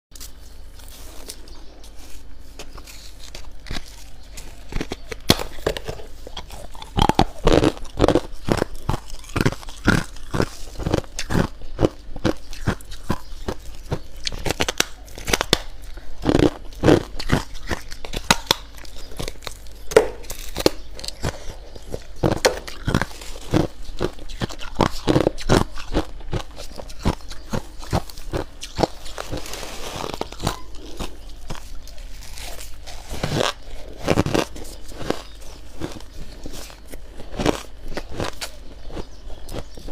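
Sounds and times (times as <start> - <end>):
person chewing crunchy frost: 0.1 - 39.9.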